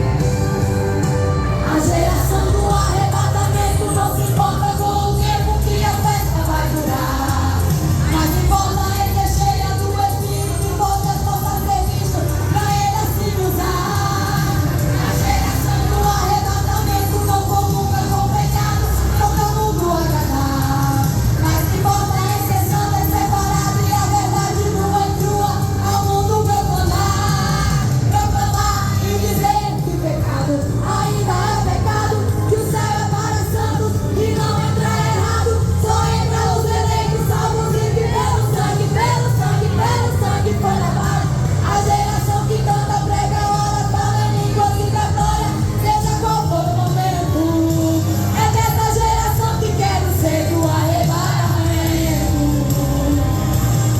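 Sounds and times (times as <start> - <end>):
band accompaniment with bass: 0.0 - 53.9
vocal group singing gospel: 0.0 - 53.9.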